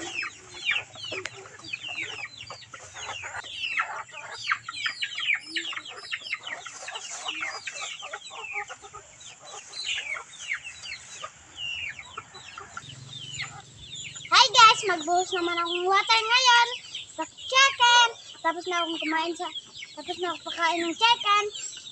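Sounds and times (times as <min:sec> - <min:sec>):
chickens calling: 0:00.0 - 0:21.9.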